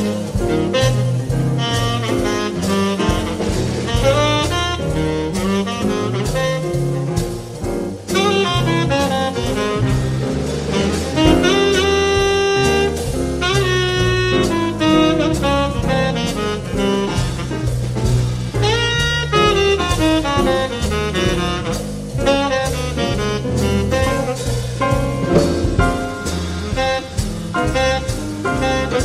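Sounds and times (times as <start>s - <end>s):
drum kit: 0.0s - 29.0s
grand piano: 0.0s - 29.0s
saxophone lead: 0.0s - 29.0s
walking upright bass: 0.0s - 29.0s.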